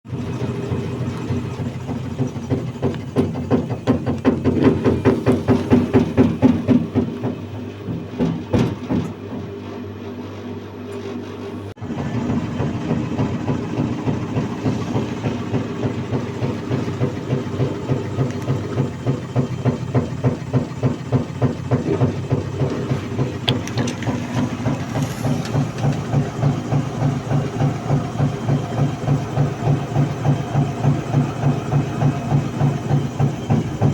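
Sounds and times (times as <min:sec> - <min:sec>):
washing machine drum knocking: 0:00.1 - 0:09.8, 0:11.8 - 0:33.9.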